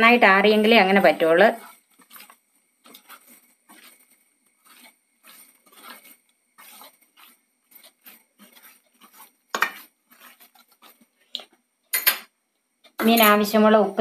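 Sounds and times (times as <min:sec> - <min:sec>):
squishy rubbing of paste: 0:00.2 - 0:11.8.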